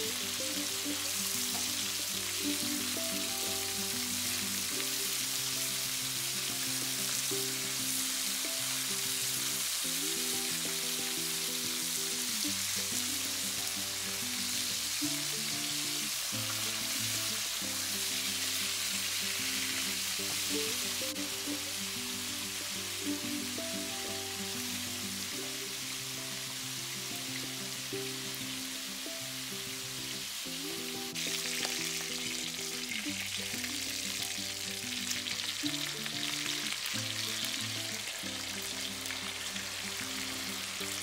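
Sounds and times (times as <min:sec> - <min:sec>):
background music with held notes: 0:00.0 - 0:41.0
meat sizzling in a frying pan: 0:00.0 - 0:41.0.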